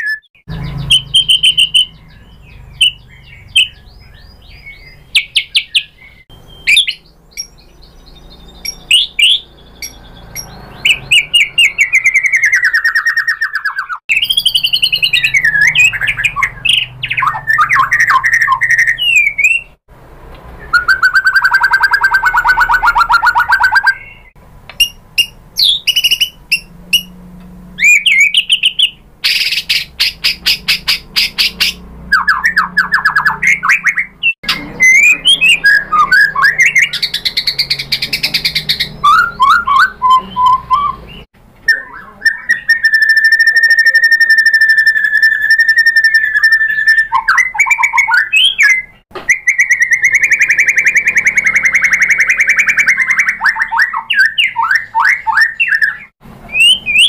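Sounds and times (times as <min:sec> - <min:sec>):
bird singing whistles and trills: 0:00.0 - 0:19.8, 0:20.6 - 0:27.1, 0:27.8 - 0:57.0.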